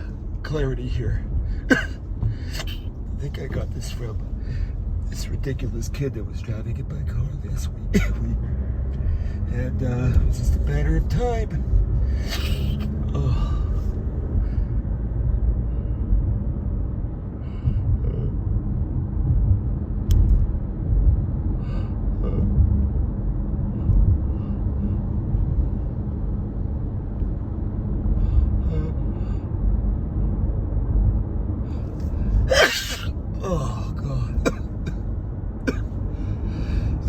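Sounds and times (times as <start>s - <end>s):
car cabin road and engine rumble: 0.0s - 37.0s.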